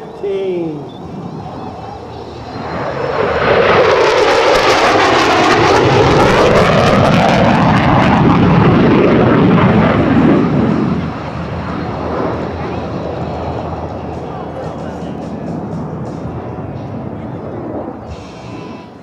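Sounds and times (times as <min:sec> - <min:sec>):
jet engines roaring in low pass: 0:00.0 - 0:19.0.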